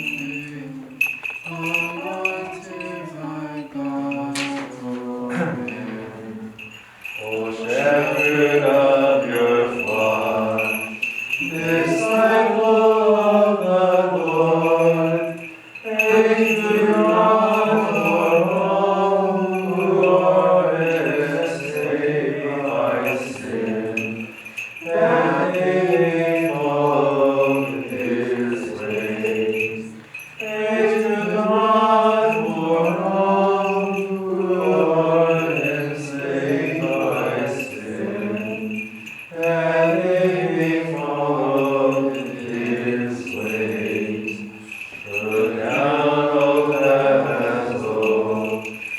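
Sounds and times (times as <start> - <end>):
voices singing chant: 0.0 - 48.9.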